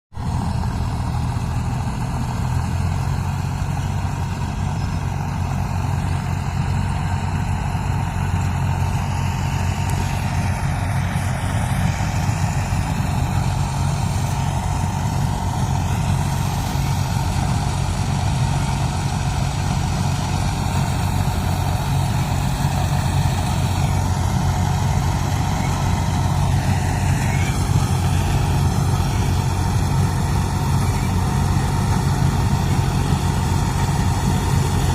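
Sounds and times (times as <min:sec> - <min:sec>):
diesel engine droning: 0:00.1 - 0:34.9.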